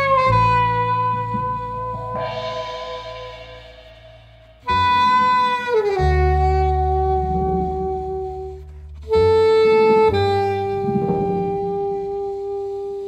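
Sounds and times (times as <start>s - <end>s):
double bass: 0.0s - 13.0s
jazz horn section chords: 0.0s - 13.0s.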